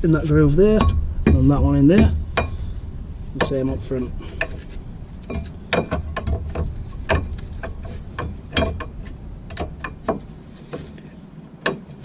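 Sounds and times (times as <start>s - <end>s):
metallic clicks and knocks: 0.3s - 2.8s, 3.4s - 11.0s, 11.6s - 12.0s.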